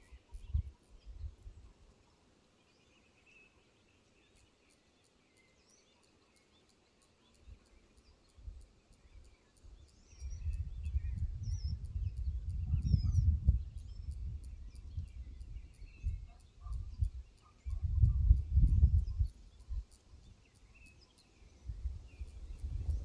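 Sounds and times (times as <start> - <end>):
faint bird chirps: 0.0 - 23.0.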